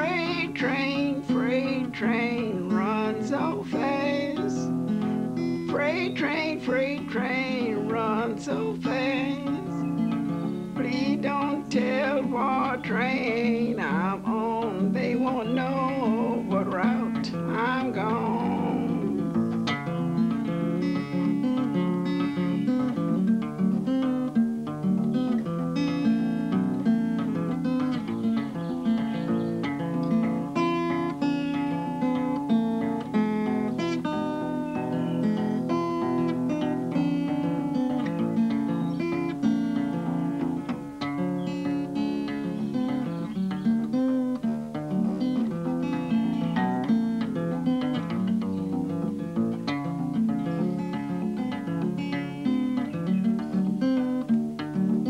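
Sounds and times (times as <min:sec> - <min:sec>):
fingerpicked acoustic guitar: 0:00.0 - 0:55.0.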